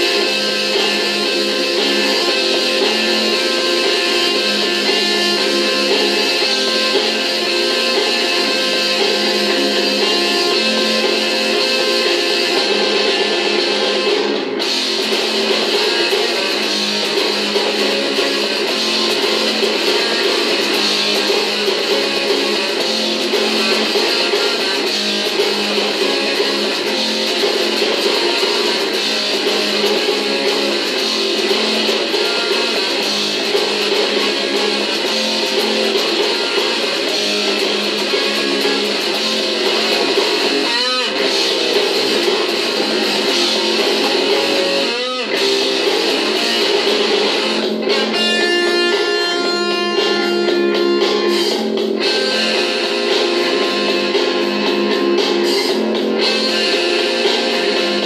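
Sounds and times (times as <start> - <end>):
electric guitar strumming chords: 0.0 - 58.0.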